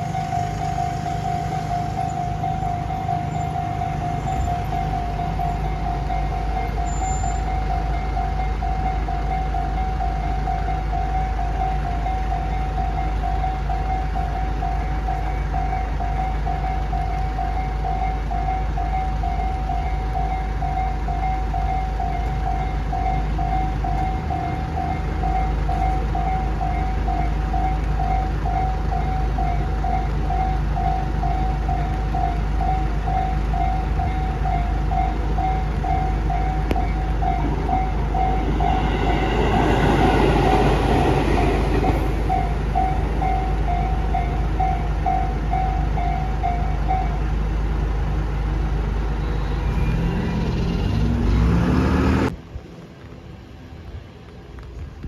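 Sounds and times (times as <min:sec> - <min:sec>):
railroad crossing bell ringing: 0:00.0 - 0:50.2
train rumbling: 0:00.0 - 0:55.0.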